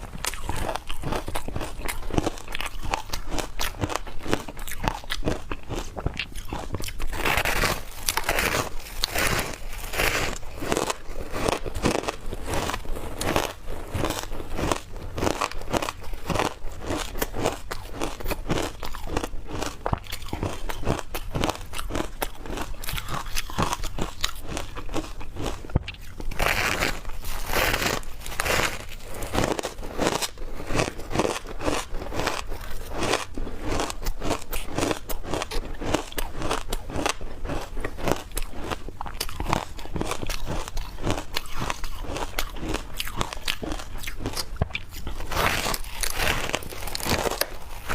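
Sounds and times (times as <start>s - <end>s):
crisp crunching of ice chewed: 0.0s - 47.9s.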